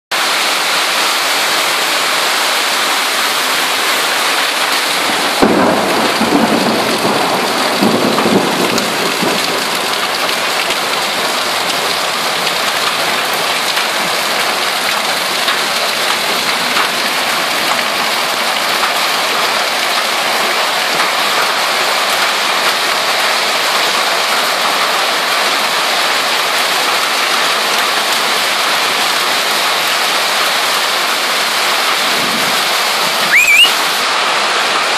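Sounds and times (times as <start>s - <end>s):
hail and rain pelting pavement: 0.2s - 33.3s.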